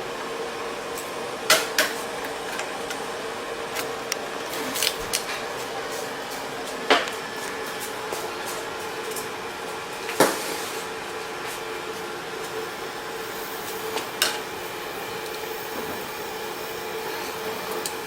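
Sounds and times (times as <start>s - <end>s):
workshop machine hum: 0.0s - 18.0s.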